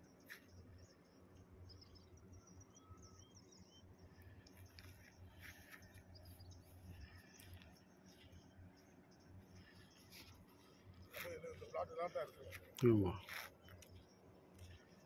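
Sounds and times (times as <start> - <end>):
distant bird chirps: 0.0 - 15.0.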